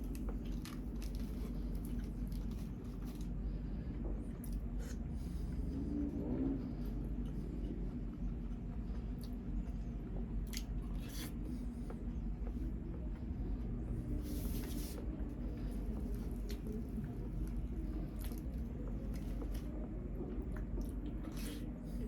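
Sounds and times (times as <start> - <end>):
soft chewing and mouth sounds: 0.0 - 22.0
steady low hum: 0.0 - 22.0.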